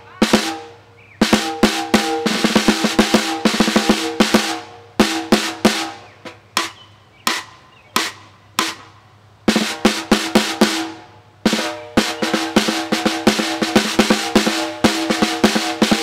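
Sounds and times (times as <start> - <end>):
snare drum played with sticks: 0.0 - 16.0.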